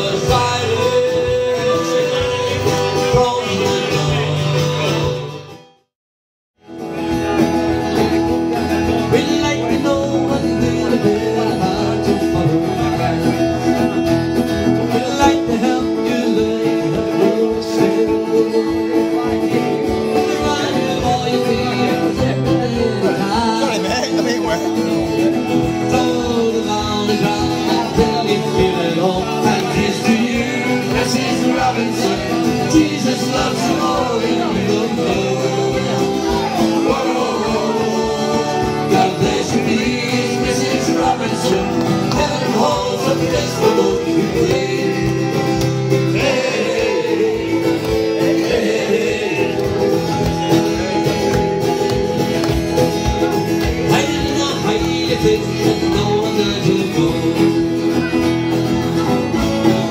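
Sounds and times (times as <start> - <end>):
country music with plucked guitar: 0.0 - 5.8, 6.6 - 59.9.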